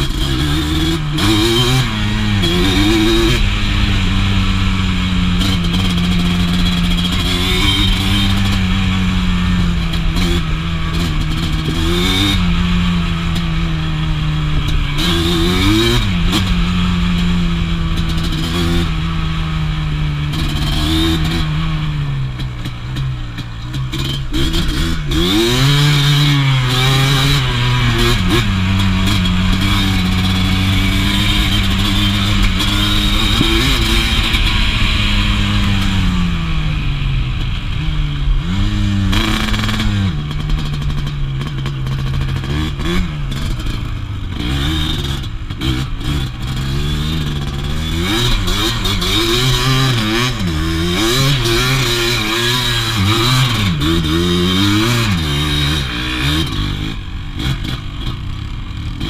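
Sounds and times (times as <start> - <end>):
quad engine revving under load: 0.0 - 59.0.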